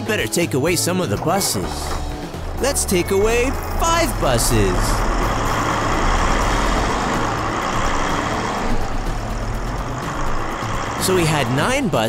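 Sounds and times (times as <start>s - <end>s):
bus engines rumbling: 0.0s - 12.0s.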